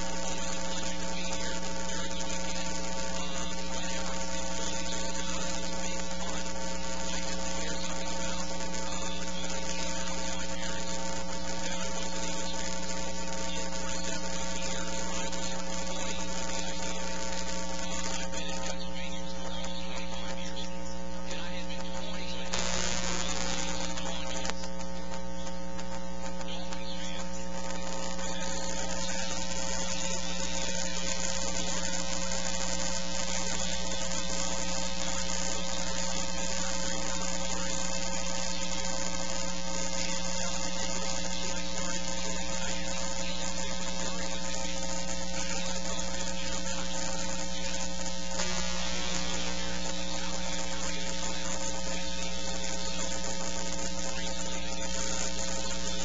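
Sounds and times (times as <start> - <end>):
electrical buzzing hum: 0.0 - 56.0.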